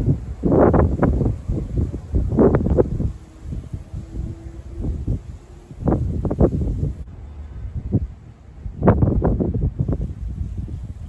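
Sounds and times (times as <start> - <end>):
tree leaves rustling: 0.0 - 11.0
wind buffeting microphone: 0.0 - 11.0.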